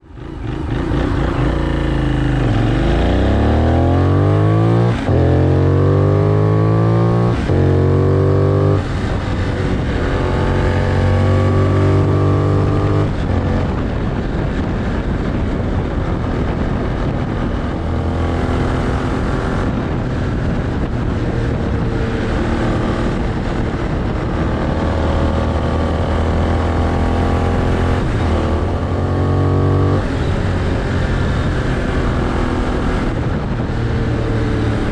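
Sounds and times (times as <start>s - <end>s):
motorcycle engine accelerating: 0.0s - 34.9s
wind noise: 0.0s - 34.9s.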